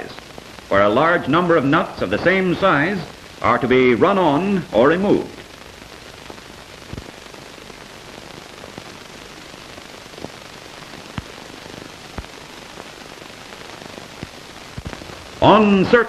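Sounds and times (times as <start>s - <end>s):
film soundtrack hiss and crackle: 0.0s - 16.0s
sharp pops: 1.5s - 15.5s.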